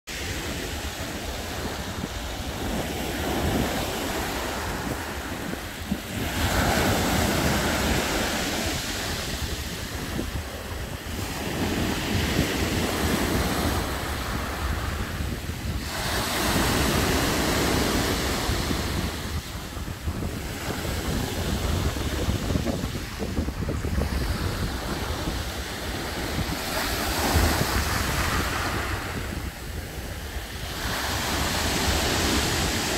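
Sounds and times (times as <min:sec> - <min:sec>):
surf breaking on shore: 0:00.1 - 0:32.9
wind buffeting microphone: 0:00.1 - 0:32.9.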